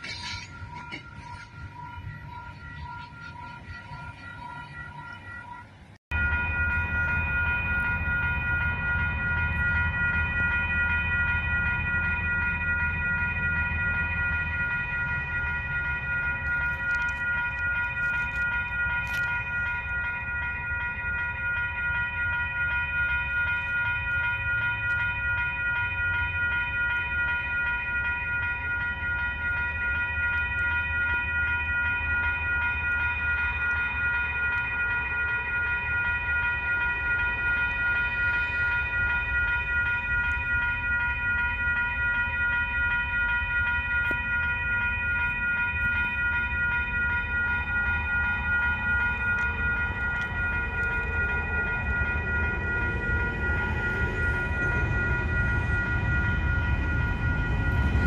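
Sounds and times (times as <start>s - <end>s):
level crossing warning bells: 0.0s - 58.0s
low train rumble: 0.0s - 58.0s.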